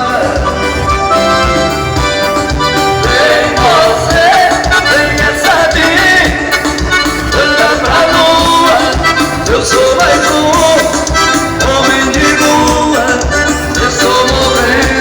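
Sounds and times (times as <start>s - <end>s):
accordion-led latin dance music: 0.0s - 15.0s.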